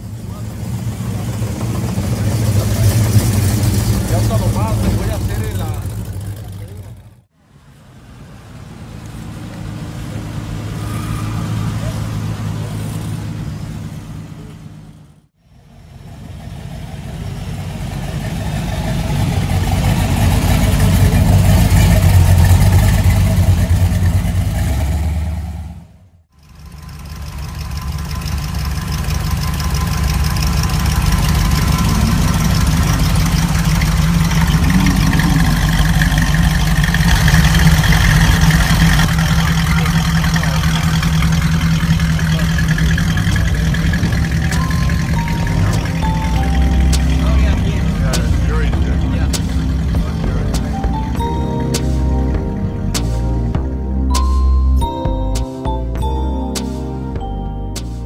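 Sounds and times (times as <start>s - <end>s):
car engine idling rumble: 0.0s - 56.6s.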